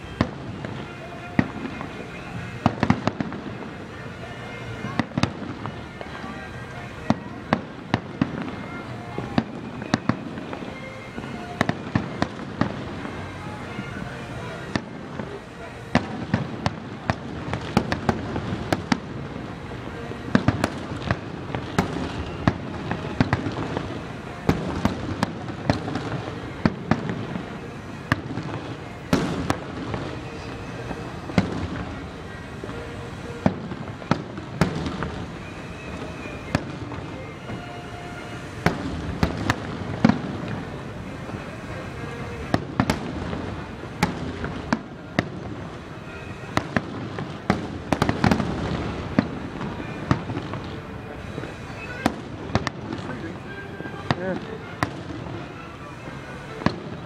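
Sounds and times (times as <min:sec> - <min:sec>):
fireworks bursting: 0:00.0 - 0:57.0
noisy background: 0:00.0 - 0:57.0.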